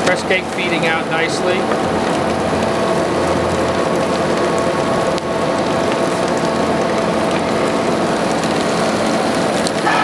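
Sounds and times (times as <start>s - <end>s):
dense crackling rattle: 0.0s - 10.0s.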